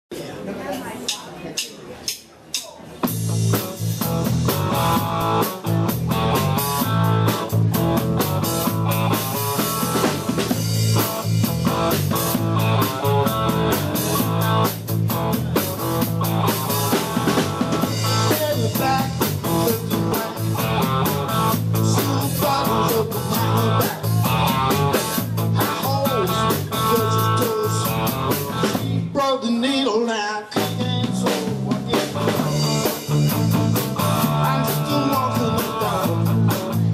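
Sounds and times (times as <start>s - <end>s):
drum kit: 1.1s - 29.3s, 30.5s - 36.9s
electric guitar: 3.0s - 29.2s, 30.6s - 36.9s
bass guitar: 3.0s - 36.9s.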